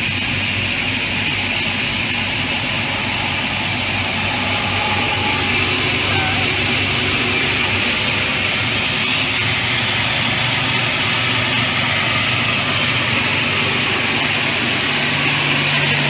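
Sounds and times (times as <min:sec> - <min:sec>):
cutting machine whirring: 0:00.6 - 0:16.0.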